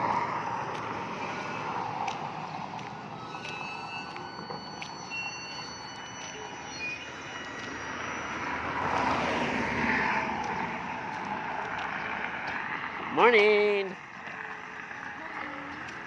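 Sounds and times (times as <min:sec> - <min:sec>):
motor vehicle passing: 0:00.0 - 0:05.6, 0:07.2 - 0:16.0.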